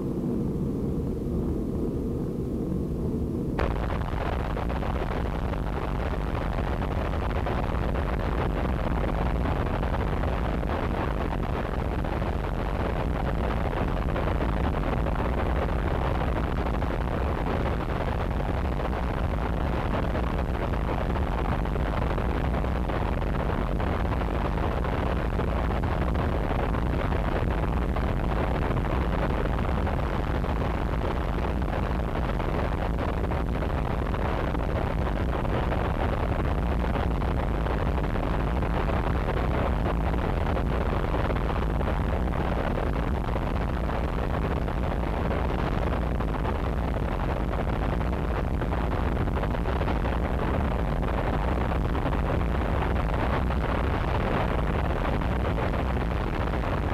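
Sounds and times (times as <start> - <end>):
distorted static noise: 0.0 - 56.9.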